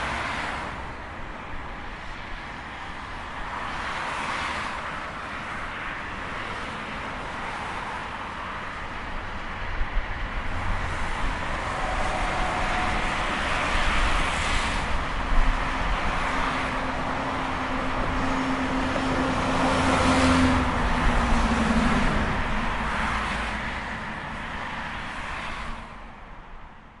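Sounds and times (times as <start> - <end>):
highway traffic: 0.0 - 27.0
vehicles passing close by: 0.0 - 27.0.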